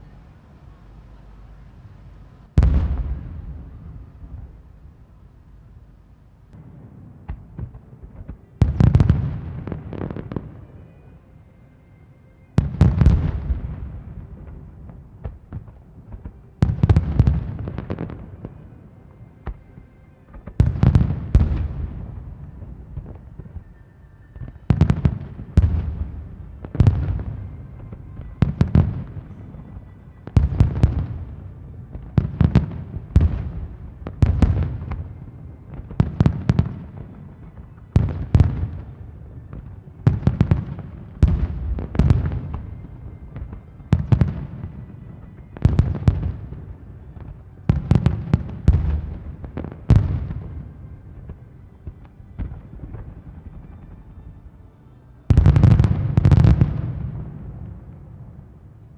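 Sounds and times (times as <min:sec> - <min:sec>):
fireworks bursting with cracks: 0:02.5 - 0:04.8, 0:06.5 - 0:11.1, 0:12.6 - 0:18.8, 0:19.4 - 0:54.4, 0:55.3 - 0:58.9.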